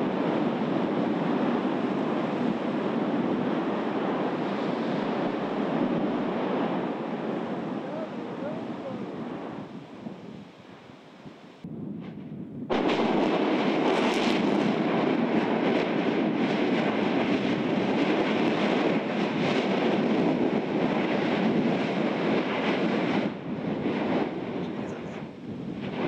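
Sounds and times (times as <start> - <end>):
rushing gas and lava spatter: 0.0 - 10.5, 11.2 - 26.0
volcanic blast: 0.0 - 26.0.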